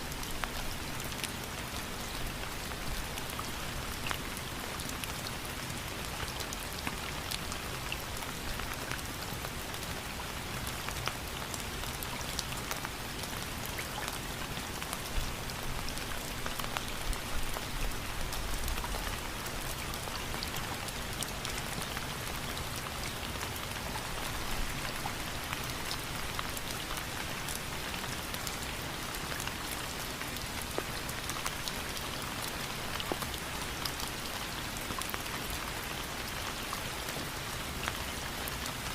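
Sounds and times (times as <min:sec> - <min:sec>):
rain falling on surface: 0:00.0 - 0:38.9.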